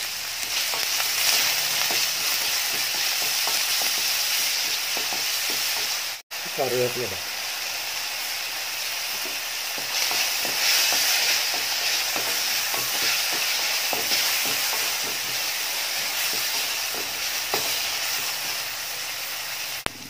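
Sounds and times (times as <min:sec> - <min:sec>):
onions sizzling in a pan: 0:00.0 - 0:20.0.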